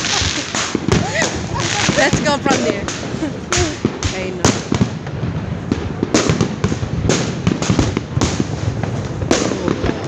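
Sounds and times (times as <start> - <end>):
fireworks crackling: 0.0 - 10.0
loud firework reports: 0.0 - 10.0.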